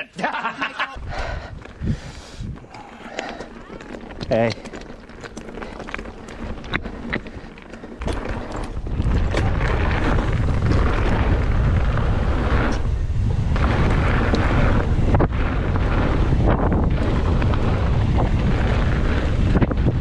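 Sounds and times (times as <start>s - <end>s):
tyres on dirt trail: 0.0s - 20.0s
wind buffeting microphone: 1.0s - 20.0s.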